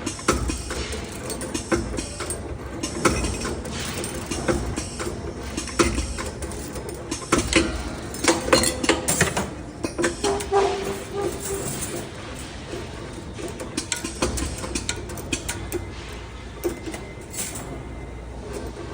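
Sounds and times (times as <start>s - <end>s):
metallic clicks and clanks: 0.0s - 18.9s
wire bending machine humming: 0.0s - 18.9s.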